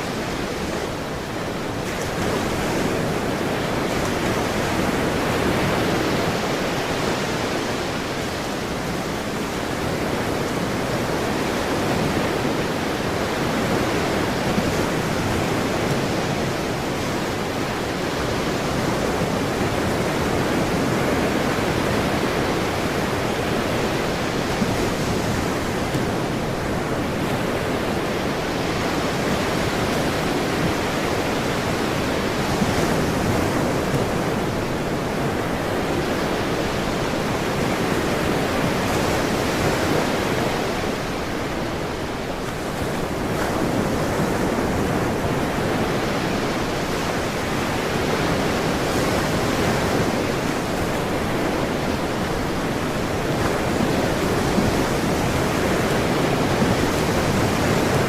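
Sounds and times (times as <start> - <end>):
ocean waves washing ashore: 0.0 - 58.0.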